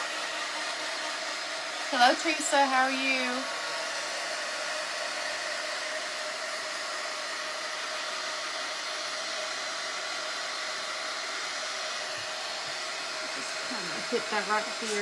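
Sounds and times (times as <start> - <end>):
small blower rushing air: 0.0 - 15.0.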